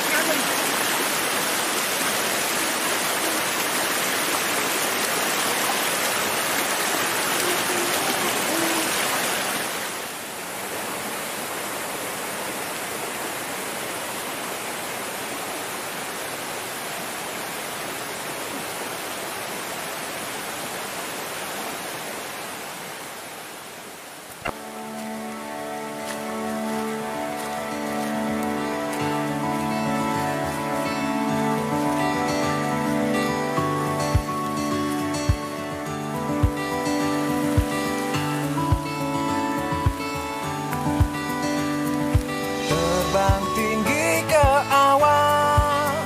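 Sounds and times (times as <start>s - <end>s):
stream rushing over rocks: 0.0s - 46.0s.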